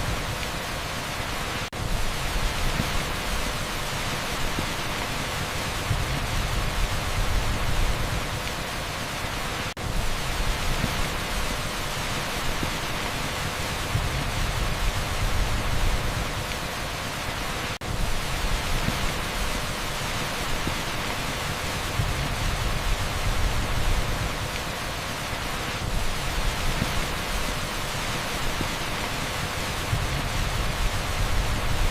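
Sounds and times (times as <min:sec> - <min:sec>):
heavy rain on asphalt: 0:00.0 - 0:31.9
pink noise: 0:00.0 - 0:31.9.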